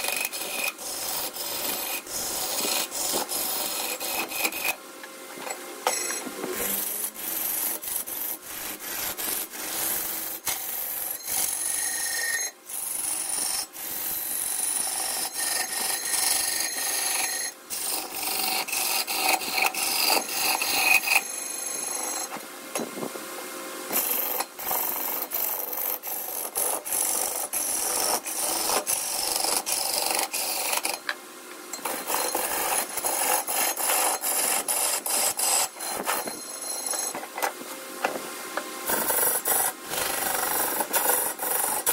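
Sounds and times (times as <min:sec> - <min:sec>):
lathe tool scraping spinning wood: 0:00.0 - 0:04.8, 0:06.1 - 0:22.4, 0:23.9 - 0:31.2, 0:31.8 - 0:37.2, 0:38.8 - 0:41.9.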